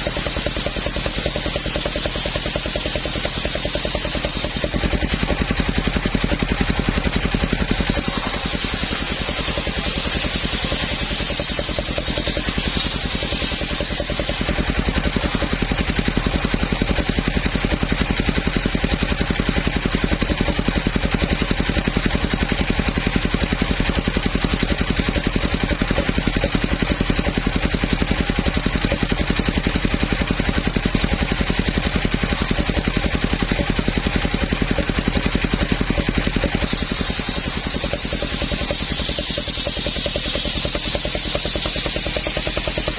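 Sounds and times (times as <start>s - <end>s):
sawmill sawing a trunk: 0.0s - 42.9s.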